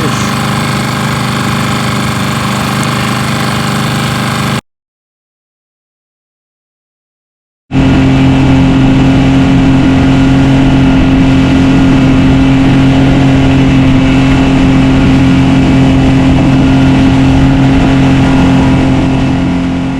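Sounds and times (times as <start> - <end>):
outboard motor running: 0.0 - 4.6, 7.7 - 19.9.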